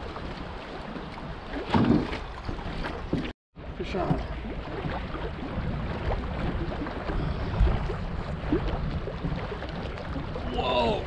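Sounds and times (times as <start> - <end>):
water rushing around canoe: 0.0 - 11.0
wind buffeting microphone: 0.0 - 11.0.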